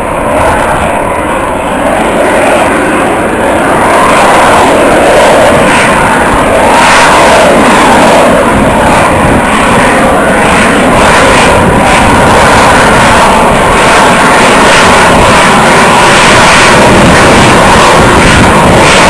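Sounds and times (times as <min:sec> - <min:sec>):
loud jet noise overhead: 0:00.0 - 0:19.0.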